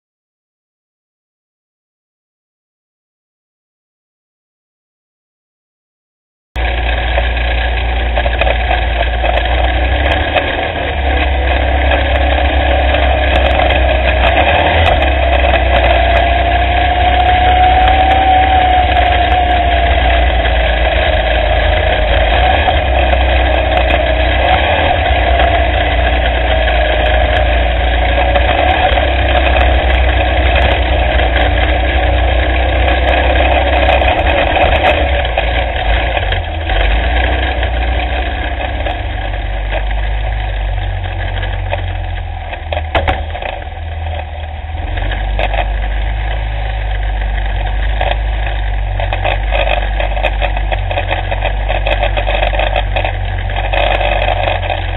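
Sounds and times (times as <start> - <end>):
kart engine running: 6.6 - 54.9
sharp knocks and rattles: 6.6 - 54.9
wind rumble on camera: 8.2 - 54.9.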